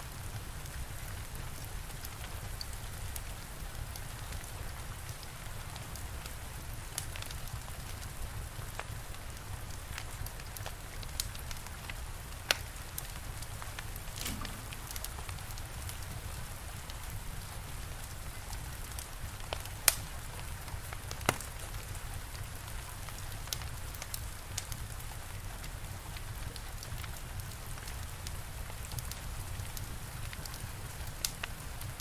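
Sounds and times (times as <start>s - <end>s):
steady rain: 0.0s - 32.0s
wood fire crackling: 0.0s - 32.0s.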